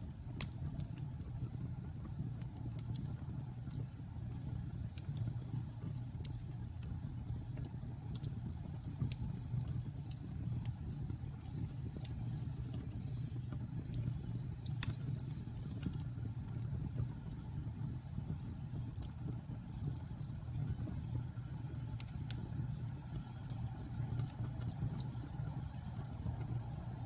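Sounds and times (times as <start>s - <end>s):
bonfire crackling: 0.0s - 27.0s.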